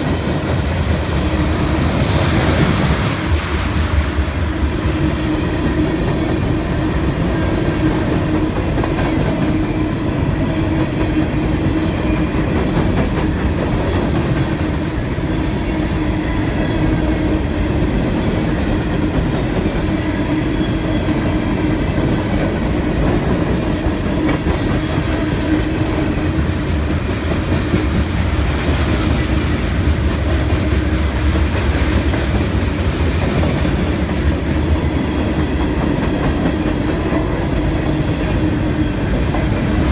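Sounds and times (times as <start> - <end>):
freight train wheels clacking: 0.0 - 39.9
train rumble: 0.0 - 39.9.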